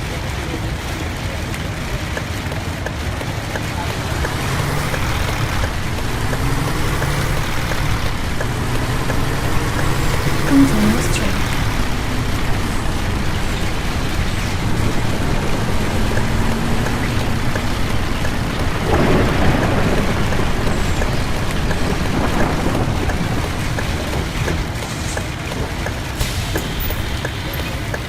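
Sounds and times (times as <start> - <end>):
bus driving rumble: 0.0 - 28.0
heavy rain on a bus: 0.0 - 28.0.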